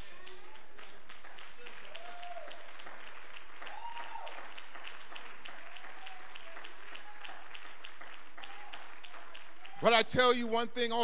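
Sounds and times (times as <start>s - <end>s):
congregation clapping in rhythm: 0.0s - 11.0s.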